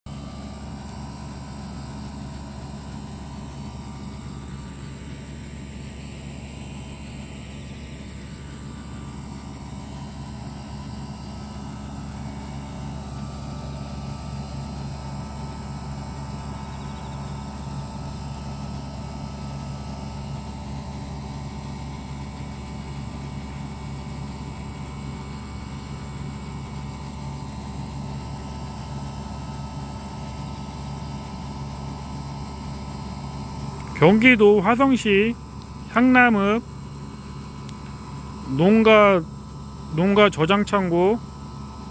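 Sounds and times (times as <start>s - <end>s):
compressor hum: 0.1s - 41.9s
condenser fan whirring: 0.1s - 41.9s.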